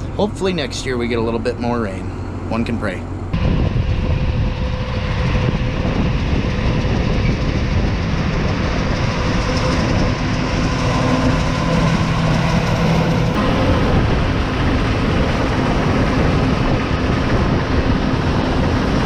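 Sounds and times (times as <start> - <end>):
farm machinery engine running: 0.0 - 19.0
wind buffeting microphone: 0.0 - 19.0.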